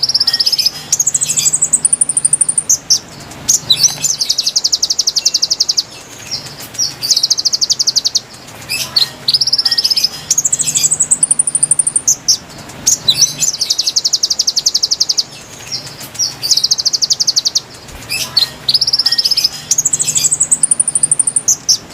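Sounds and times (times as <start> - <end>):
recorded bird song trills: 0.0 - 21.9.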